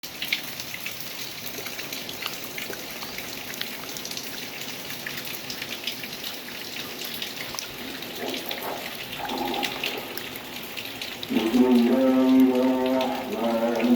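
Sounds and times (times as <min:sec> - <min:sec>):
rain drops ticking on a surface: 0:00.0 - 0:13.9.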